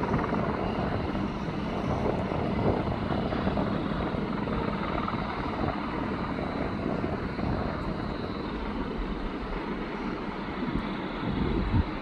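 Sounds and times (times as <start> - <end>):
distant helicopter running: 0.0 - 12.0.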